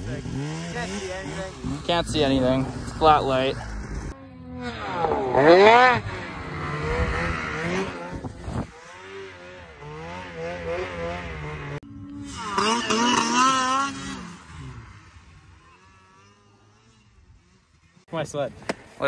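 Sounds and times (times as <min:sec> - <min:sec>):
snowmobile engines revving: 0:00.0 - 0:19.0.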